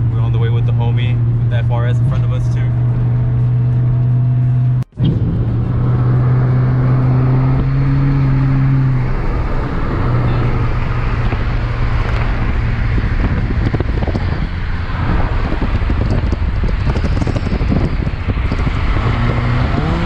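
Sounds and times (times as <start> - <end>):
car engine drone: 0.0 - 20.0
road and wind noise: 0.0 - 20.0.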